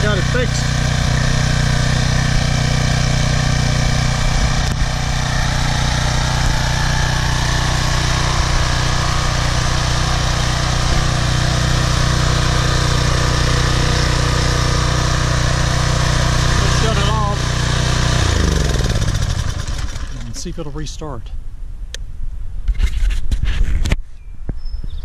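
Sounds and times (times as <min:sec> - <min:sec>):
pressure washer engine running: 0:00.0 - 0:21.1.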